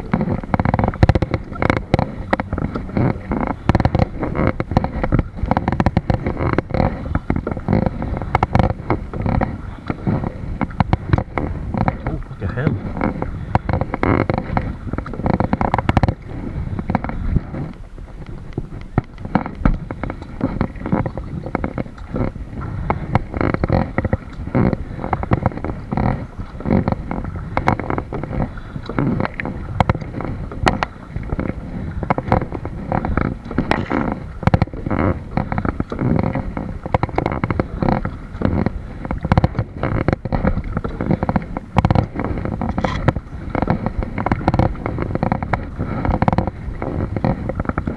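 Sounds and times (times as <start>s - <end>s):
kayak paddling splashes: 0.0s - 47.9s
water knocking on boat: 0.0s - 47.9s
wind on microphone: 0.0s - 47.9s.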